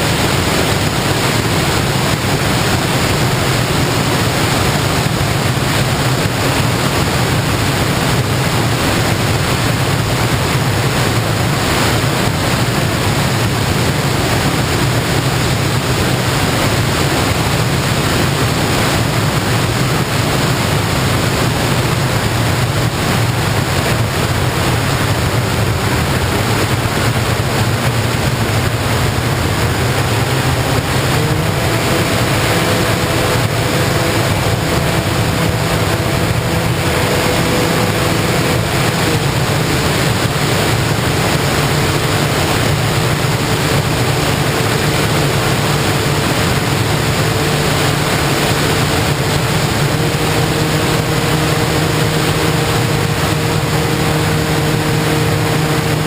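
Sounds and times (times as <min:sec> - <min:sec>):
electric motor and propeller humming: 0:00.0 - 0:56.0
rush of wind noise: 0:00.0 - 0:56.0.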